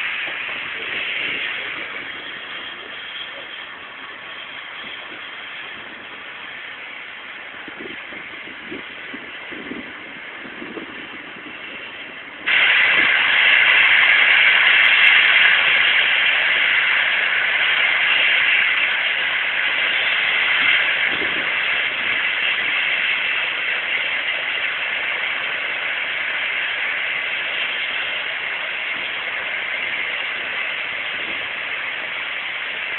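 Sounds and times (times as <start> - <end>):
steam locomotive hissing steam: 0.0 - 32.9.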